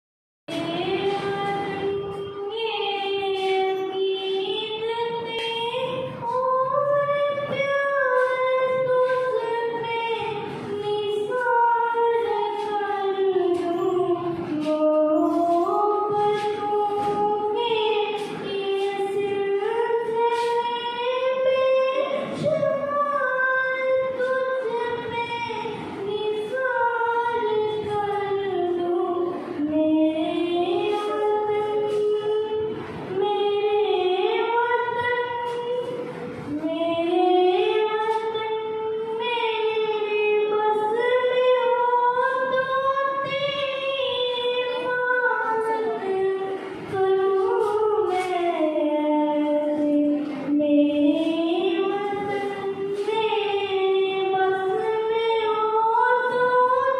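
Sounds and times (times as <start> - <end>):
girl singing into a microphone: 0.5 - 56.9.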